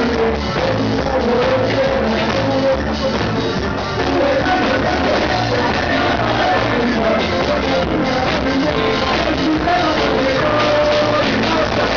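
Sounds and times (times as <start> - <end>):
live rock band playing: 0.0 - 11.9
man singing: 0.0 - 11.9.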